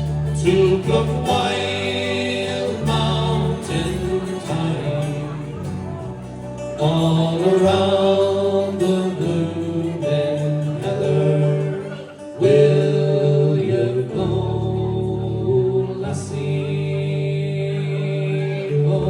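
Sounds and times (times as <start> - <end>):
group singing: 0.0 - 19.0
guitar and bass: 0.0 - 19.0.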